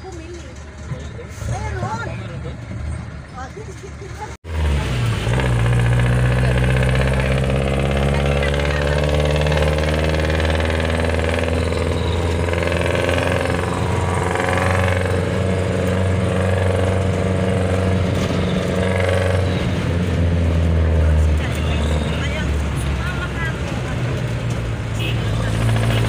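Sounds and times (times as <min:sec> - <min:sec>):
vehicle engine low rumble: 0:00.0 - 0:26.0.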